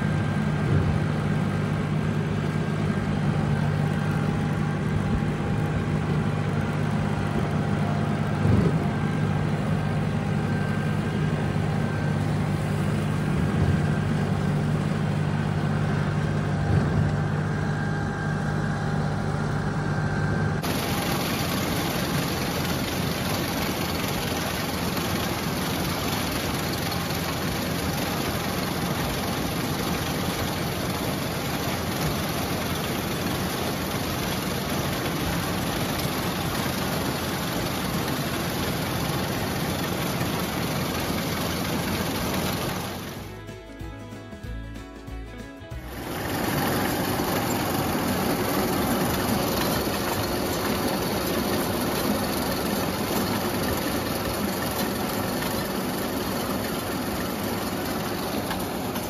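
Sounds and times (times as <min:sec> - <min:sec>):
corn picker running: 0:00.0 - 0:59.0
tractor engine running: 0:00.0 - 0:59.0.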